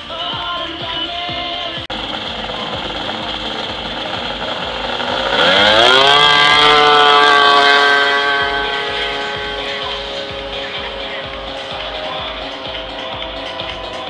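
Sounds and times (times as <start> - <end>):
snowmobile engine at full throttle: 0.1 - 14.0.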